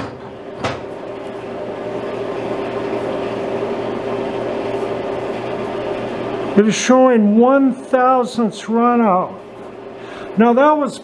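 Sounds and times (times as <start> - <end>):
electric machine hum: 0.0 - 11.0.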